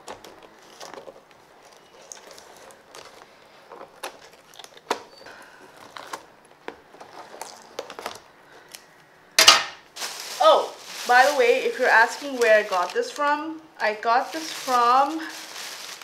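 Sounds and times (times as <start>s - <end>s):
packaging crinkling: 0.0s - 9.1s, 9.9s - 13.3s, 14.0s - 16.0s.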